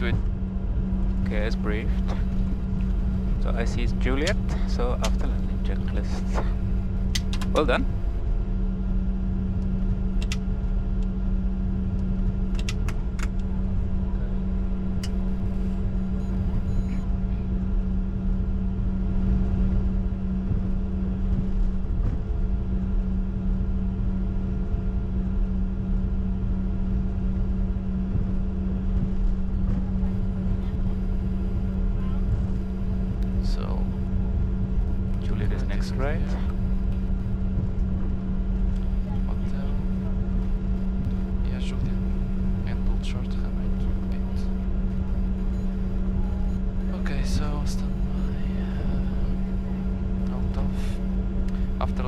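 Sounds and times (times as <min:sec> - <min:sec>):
jet engines idling hum: 0:00.0 - 0:52.0.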